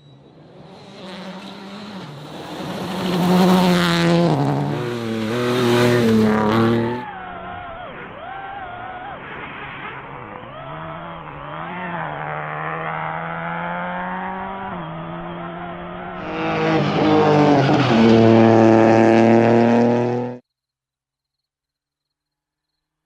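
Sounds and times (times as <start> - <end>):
rally car engine revving: 0.1 - 20.4.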